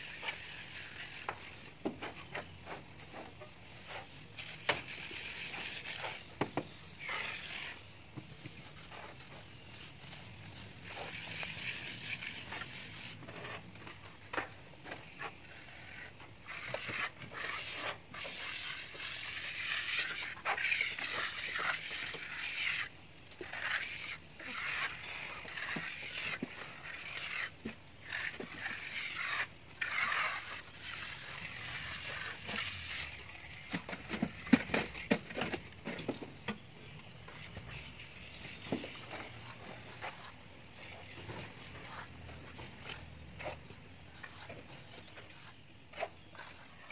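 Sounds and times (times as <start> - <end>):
trowel scraping wet cement: 0.0 - 46.9.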